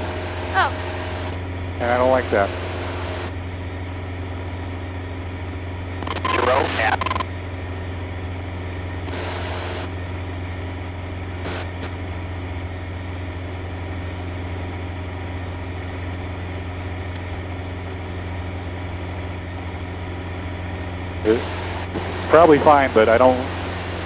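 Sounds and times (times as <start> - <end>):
plane engine and propeller droning: 0.0 - 24.0.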